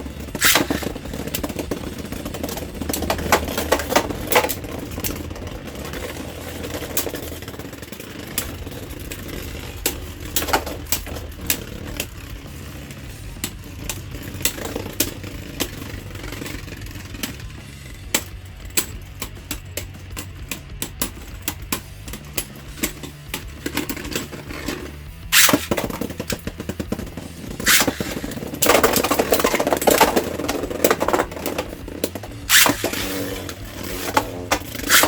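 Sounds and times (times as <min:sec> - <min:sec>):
spinning tops clashing clicks: 0:00.0 - 0:35.0
spinning tops whirring: 0:00.0 - 0:35.0.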